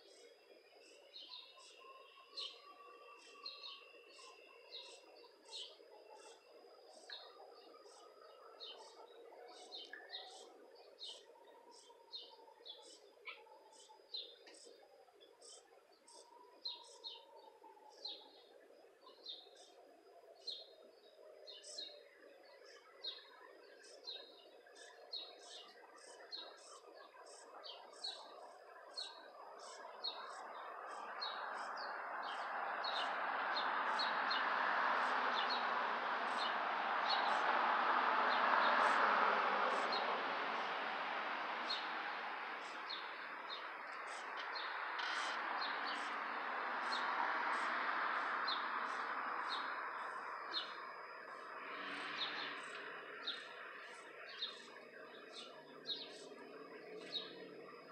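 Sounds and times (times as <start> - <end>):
bird chirping: 0.0 - 37.5, 38.3 - 40.8, 41.6 - 46.2, 46.8 - 57.9.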